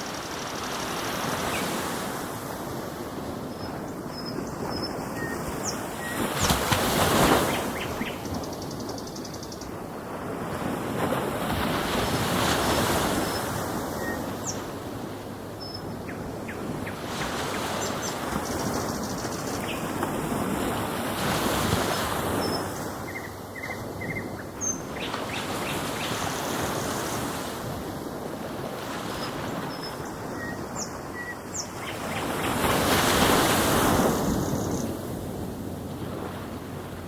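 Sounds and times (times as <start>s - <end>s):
ocean surf washing in: 0.0s - 37.0s.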